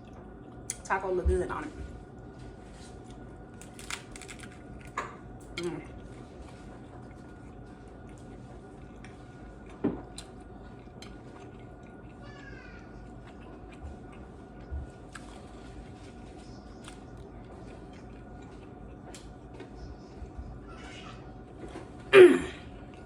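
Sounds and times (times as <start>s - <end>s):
small clicks while eating: 0.0s - 0.9s, 3.0s - 15.7s, 16.7s - 21.9s
steady low hum: 0.0s - 23.0s.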